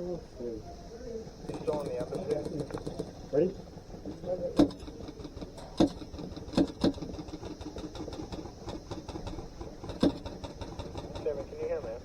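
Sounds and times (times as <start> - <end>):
steady fast rattle: 0.0 - 12.0.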